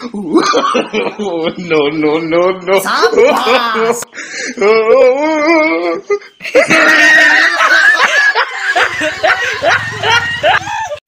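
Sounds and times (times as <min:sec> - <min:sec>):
people laughing loudly: 0:00.0 - 0:11.0.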